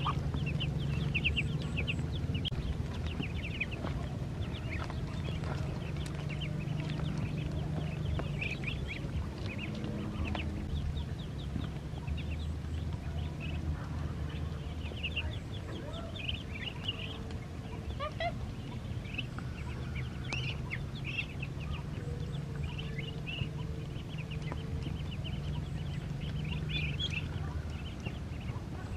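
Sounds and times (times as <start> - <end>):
ducklings peeping: 0.0 - 28.9
steady low hum: 0.0 - 28.9.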